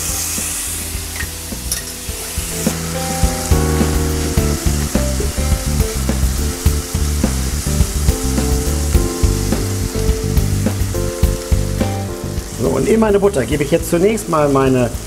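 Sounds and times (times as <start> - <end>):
background music with low notes: 0.0 - 15.0
butter sizzling in a pan: 0.0 - 15.0.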